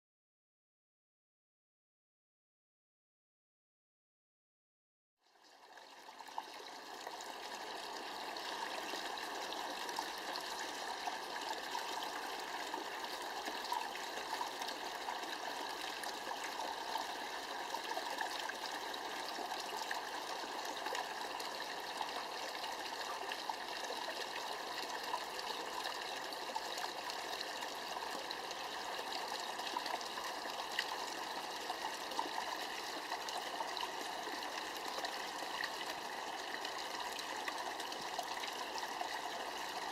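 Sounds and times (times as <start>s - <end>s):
water trickling into basin: 5.2s - 39.9s.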